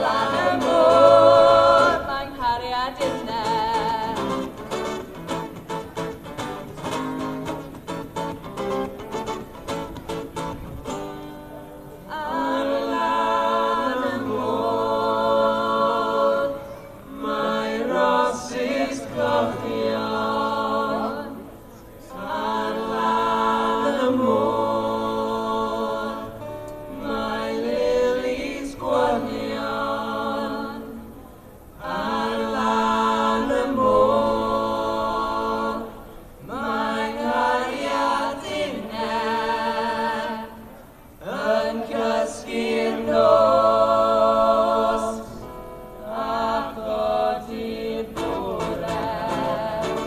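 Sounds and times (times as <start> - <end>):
unaccompanied voices singing in harmony: 0.0 - 50.0.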